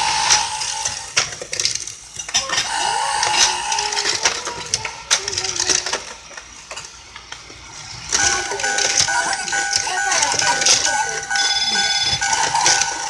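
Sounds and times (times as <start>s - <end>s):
toy level crossing clicking and rattling: 0.0s - 13.0s.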